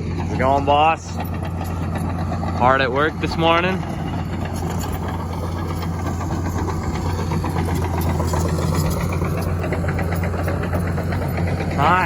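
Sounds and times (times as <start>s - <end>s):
engine idling with fast ticking: 0.0s - 12.0s.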